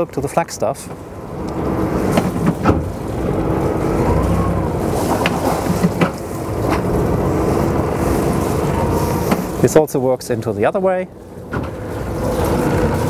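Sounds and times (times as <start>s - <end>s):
diesel engine drone: 0.0s - 13.0s
propeller wash: 0.0s - 13.0s.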